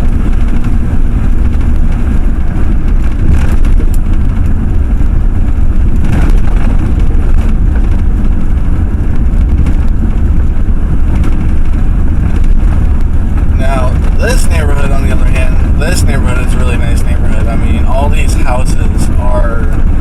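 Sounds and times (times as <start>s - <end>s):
road noise: 0.0s - 20.0s
truck engine rumble: 0.0s - 20.0s.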